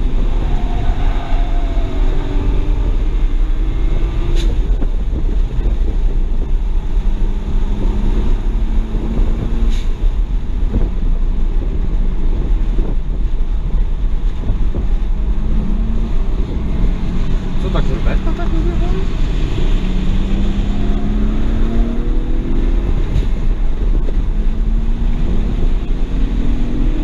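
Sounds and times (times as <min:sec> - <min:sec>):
car engine under load: 0:00.0 - 0:27.0
road rumble: 0:00.0 - 0:27.0
wind noise: 0:00.0 - 0:27.0.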